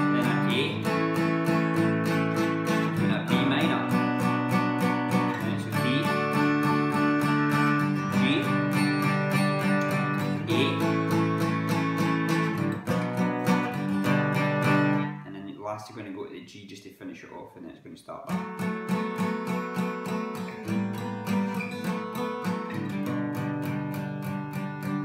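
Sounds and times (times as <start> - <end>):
acoustic guitar strumming: 0.0 - 15.4, 18.3 - 25.0.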